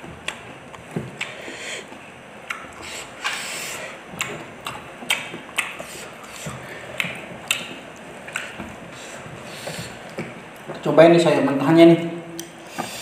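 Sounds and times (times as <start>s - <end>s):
chewing with lip smacks: 0.1s - 10.8s.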